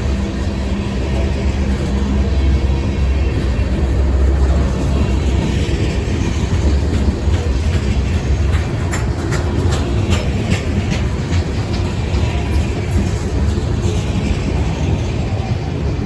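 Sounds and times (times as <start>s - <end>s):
train rumbling past: 0.0s - 16.0s
wheels clacking over rail joints: 0.0s - 16.0s.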